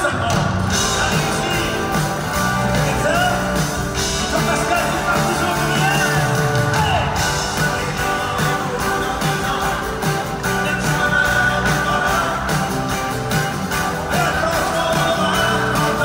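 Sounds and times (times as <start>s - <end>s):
man singing: 0.0s - 13.2s, 13.9s - 16.0s
live pop-rock band: 0.0s - 16.0s.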